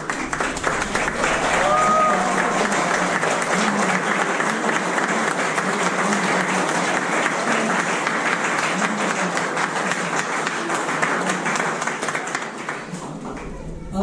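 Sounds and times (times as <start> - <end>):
crowd clapping: 0.0 - 14.0.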